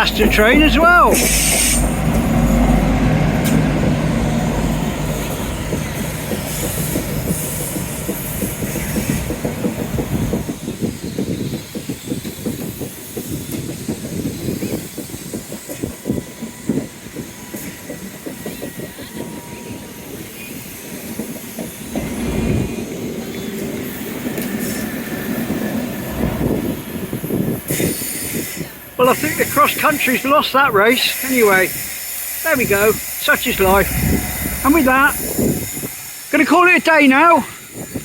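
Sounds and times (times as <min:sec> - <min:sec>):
rapid wheel clatter over rails: 0:00.0 - 0:19.3, 0:20.1 - 0:38.0
train rumble: 0:00.0 - 0:38.0.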